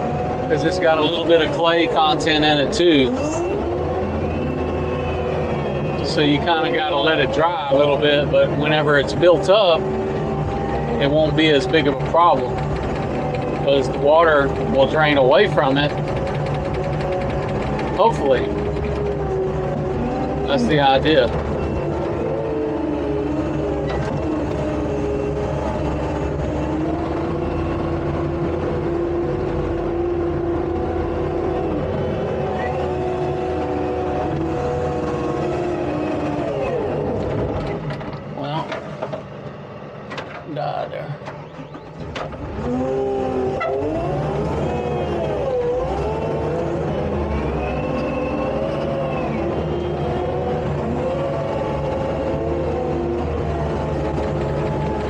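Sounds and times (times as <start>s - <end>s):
diesel engine under load: 0.0s - 55.0s
held whine: 0.0s - 55.0s.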